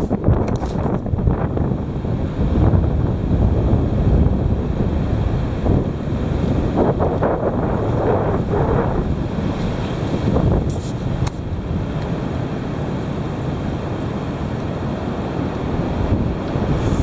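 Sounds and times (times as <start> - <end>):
wind gusting across microphone: 0.0 - 17.0.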